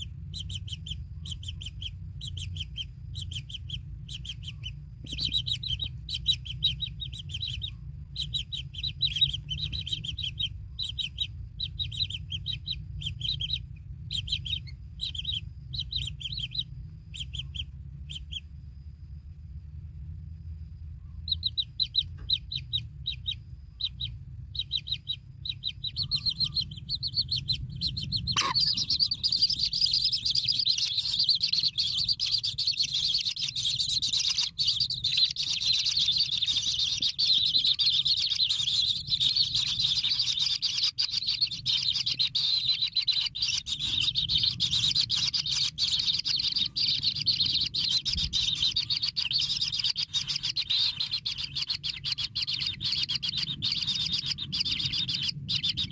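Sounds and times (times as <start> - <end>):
bird chicks chirping: 0.0 - 55.9
low rumble: 0.0 - 55.9.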